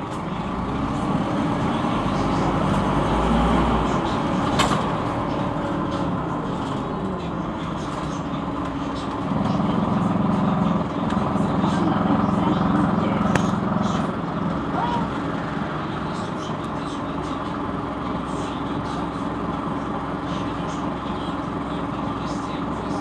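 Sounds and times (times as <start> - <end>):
bus engine humming: 0.0 - 23.0.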